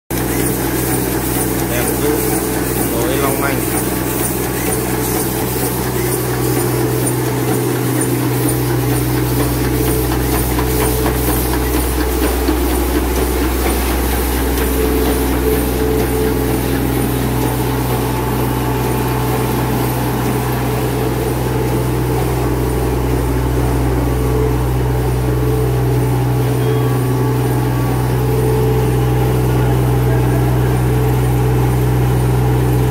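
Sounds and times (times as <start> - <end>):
machine motors humming: 0.1 - 32.9.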